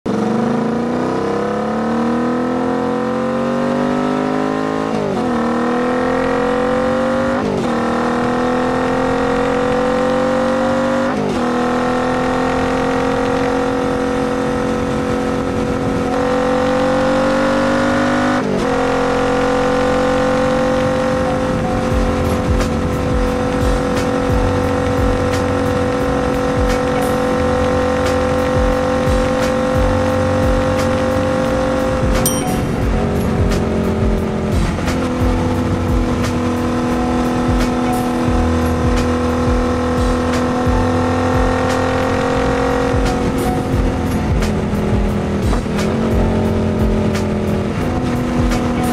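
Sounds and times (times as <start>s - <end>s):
motorcycle engine accelerating: 0.1s - 48.9s.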